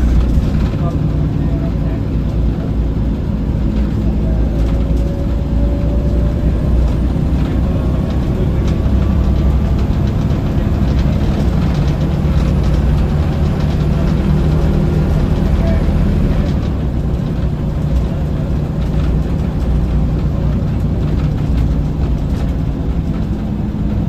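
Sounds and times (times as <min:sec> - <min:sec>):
bus diesel engine droning: 0:00.0 - 0:24.0.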